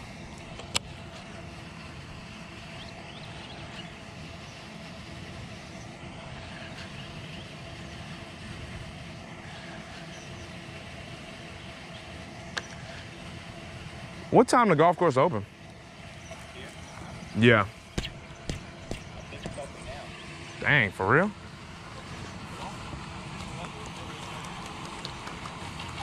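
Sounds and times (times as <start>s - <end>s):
distant engine hum: 0.0s - 26.0s.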